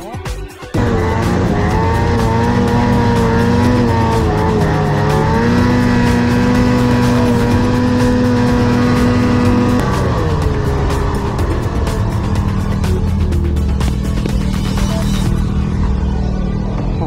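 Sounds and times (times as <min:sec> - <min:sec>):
snowmobile engine at high revs: 0:00.7 - 0:17.0.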